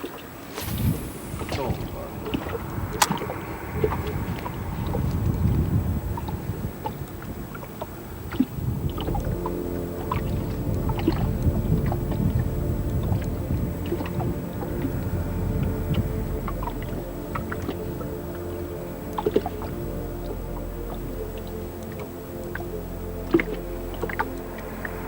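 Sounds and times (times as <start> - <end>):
low wind rumble: 0.0 - 25.0
multi-tone hum: 0.0 - 25.0
water around a boat: 0.0 - 25.0.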